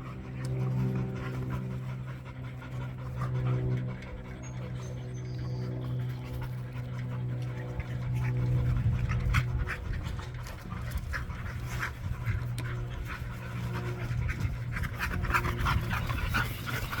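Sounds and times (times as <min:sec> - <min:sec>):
dog panting: 0:00.0 - 0:17.0
steady low hum: 0:00.0 - 0:17.0.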